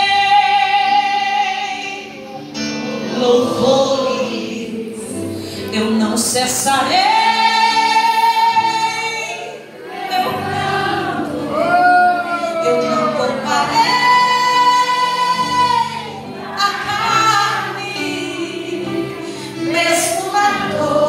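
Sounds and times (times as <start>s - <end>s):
woman singing into microphone: 0.0s - 2.3s, 2.9s - 21.0s
held backing notes: 0.0s - 21.0s.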